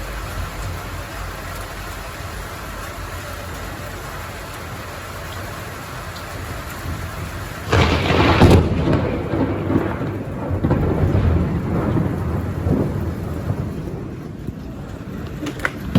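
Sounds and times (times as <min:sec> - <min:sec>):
steady rain: 0:00.0 - 0:15.9
thunder clap and rumble: 0:00.0 - 0:15.9.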